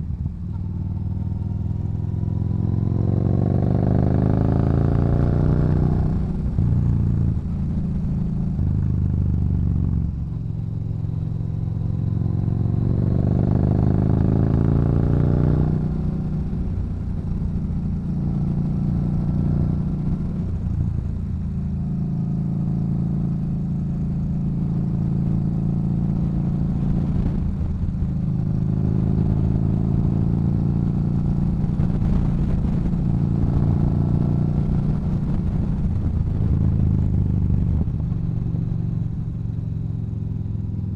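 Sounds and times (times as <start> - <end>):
motorcycle engine riding: 0.0 - 40.9.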